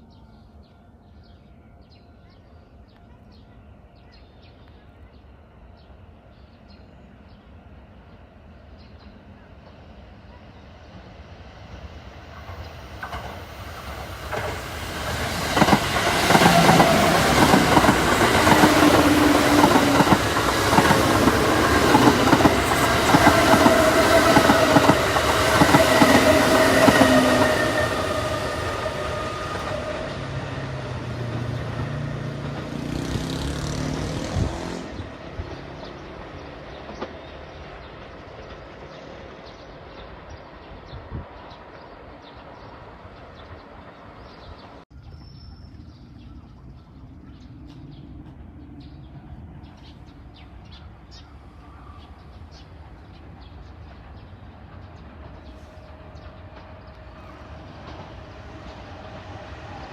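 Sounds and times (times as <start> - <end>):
electric train passing: 0.0 - 44.8, 45.6 - 59.9.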